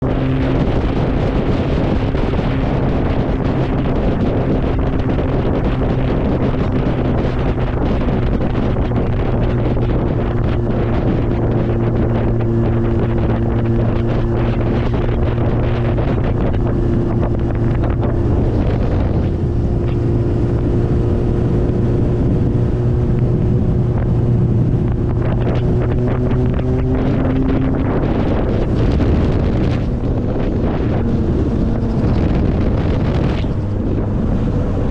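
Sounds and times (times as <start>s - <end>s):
motorbike engine running: 0.0s - 34.9s.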